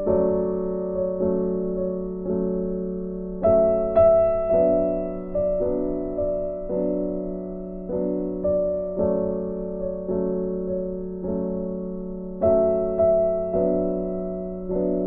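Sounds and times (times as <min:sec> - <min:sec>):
slow electric piano chords: 0:00.0 - 0:15.0.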